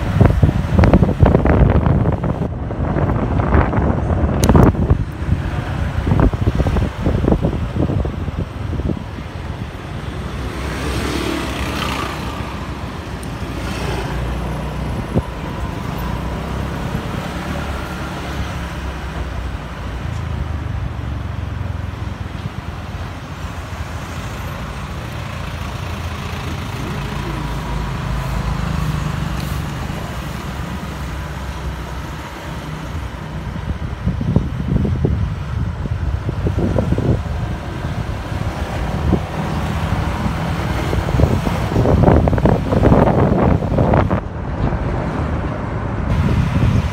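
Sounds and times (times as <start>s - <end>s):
surrounding traffic: 0.0s - 46.9s.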